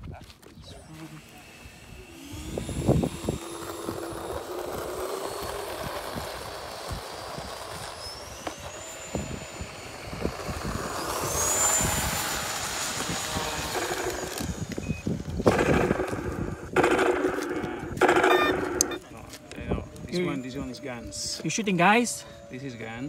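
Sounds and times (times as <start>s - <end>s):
model airplane engine whine: 0.4s - 23.0s.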